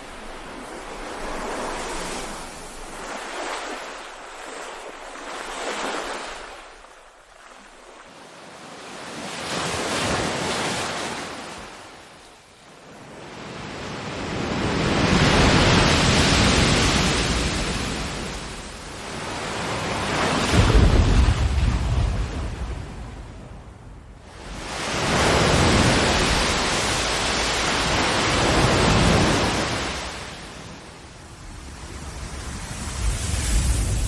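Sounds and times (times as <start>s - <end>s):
ocean waves washing in: 0.0s - 34.0s.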